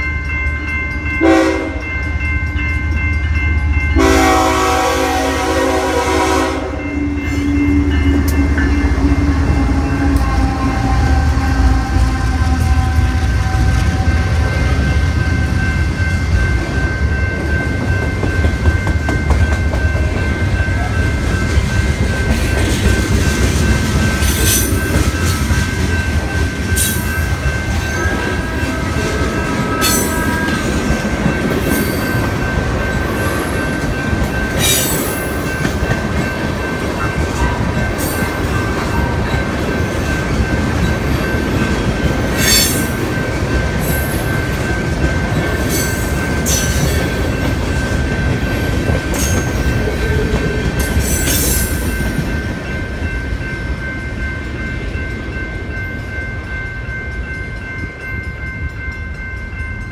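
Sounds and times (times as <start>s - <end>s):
diesel locomotive rumble: 0.0s - 51.2s.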